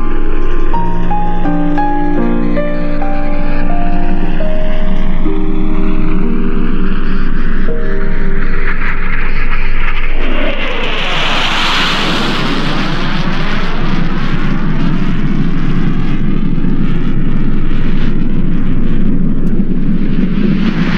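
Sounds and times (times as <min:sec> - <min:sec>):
jet aircraft flying overhead: 0:00.0 - 0:20.9.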